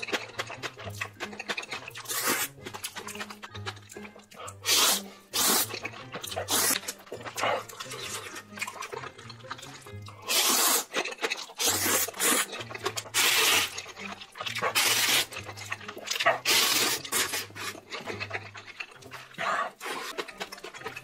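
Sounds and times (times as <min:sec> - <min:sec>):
person slurping noodles: 0:00.5 - 0:03.2, 0:04.2 - 0:21.0.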